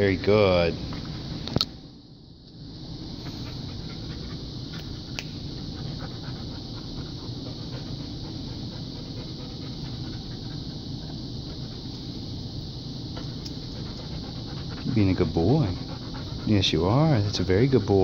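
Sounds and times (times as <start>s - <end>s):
dog panting: 3.2s - 18.0s.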